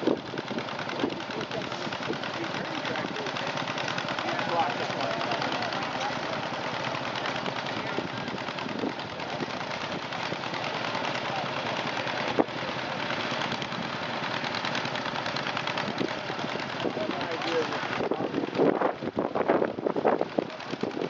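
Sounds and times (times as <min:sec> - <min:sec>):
tractor engine popping under load: 0:00.0 - 0:21.0.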